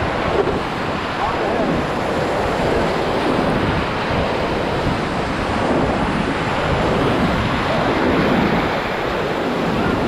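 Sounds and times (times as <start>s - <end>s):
river rapid rushing: 0.0s - 10.0s.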